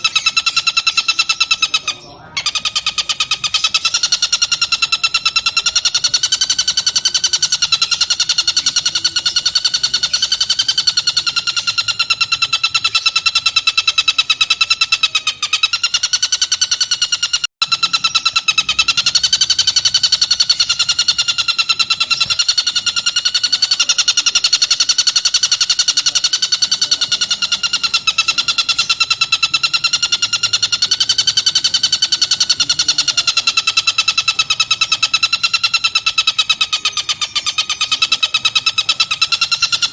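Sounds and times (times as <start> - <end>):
bird singing a rapid trill: 0.0 - 39.9.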